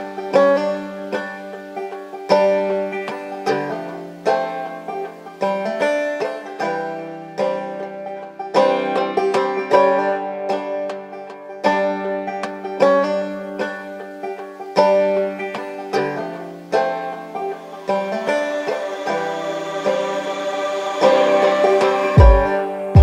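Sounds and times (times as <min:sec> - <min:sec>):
plucked string melody: 0:00.0 - 0:23.0.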